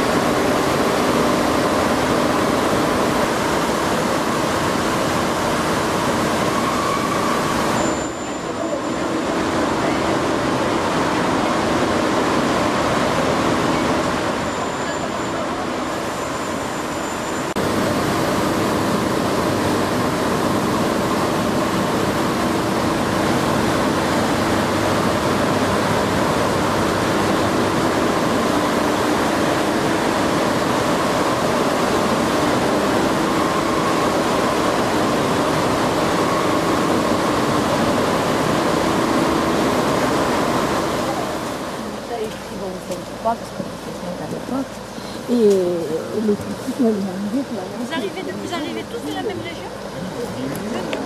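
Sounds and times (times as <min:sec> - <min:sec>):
machinery roar: 0:00.0 - 0:51.0.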